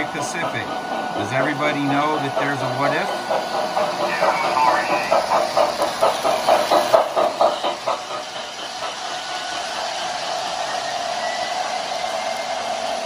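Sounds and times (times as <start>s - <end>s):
model train hum with hiss: 0.0s - 13.0s
rhythmic beat of model train: 0.0s - 13.0s.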